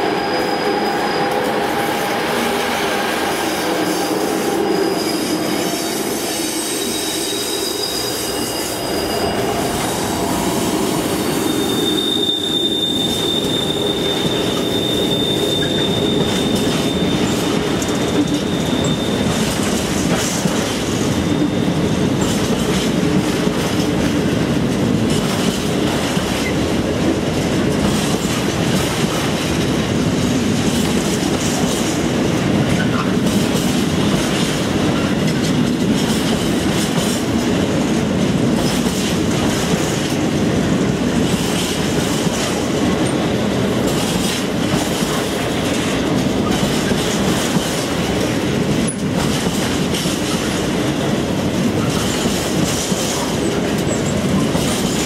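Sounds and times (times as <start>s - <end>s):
freight train wheels clattering: 0.7s - 55.0s.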